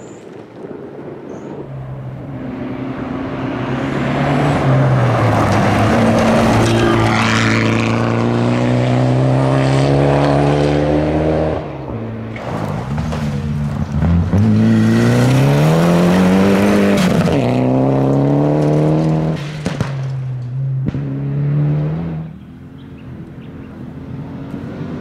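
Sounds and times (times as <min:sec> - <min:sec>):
rally car engine revving: 0:02.2 - 0:25.0.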